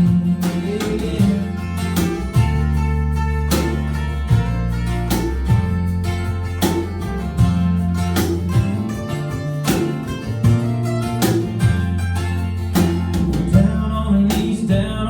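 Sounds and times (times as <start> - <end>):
held low notes: 0.0 - 15.0
strummed acoustic guitar: 0.0 - 15.0.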